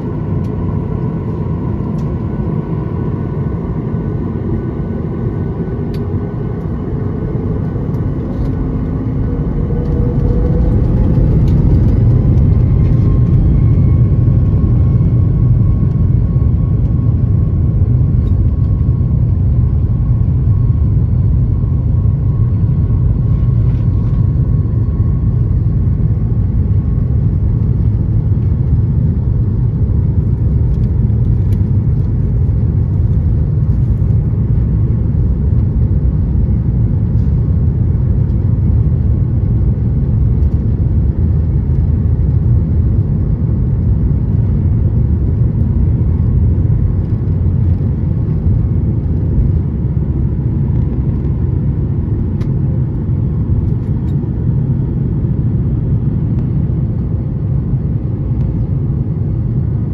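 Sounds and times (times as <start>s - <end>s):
jet engines rumbling at takeoff: 0.0s - 59.9s.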